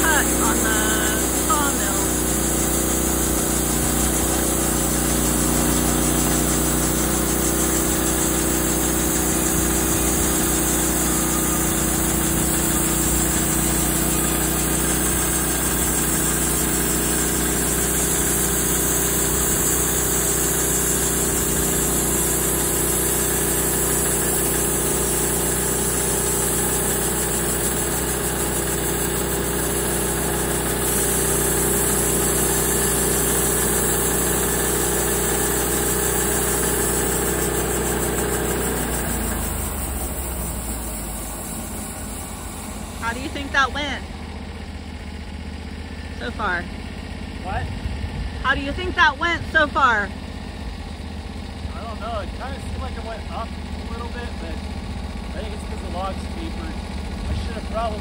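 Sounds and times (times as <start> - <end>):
sawmill engine cutting log: 0.0 - 58.0.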